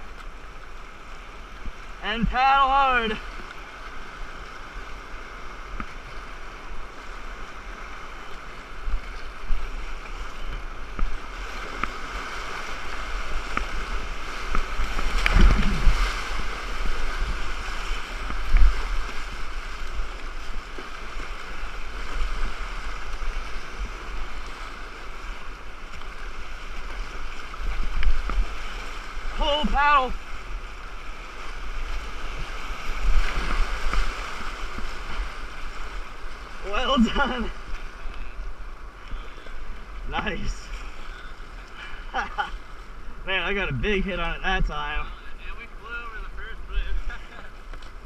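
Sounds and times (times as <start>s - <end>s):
paddle strokes and splashes: 0.0s - 44.7s, 45.4s - 48.0s
whitewater rushing: 0.0s - 47.7s
wave breaking over boat: 4.1s - 48.0s.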